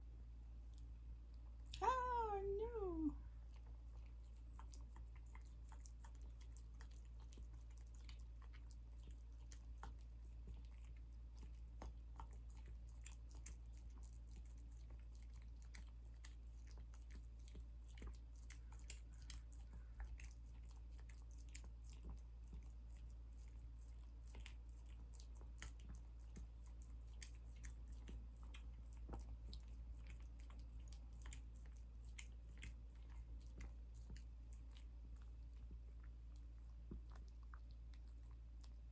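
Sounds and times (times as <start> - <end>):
low steady hum: 0.0 - 38.9
dog licking and smacking: 0.6 - 38.9.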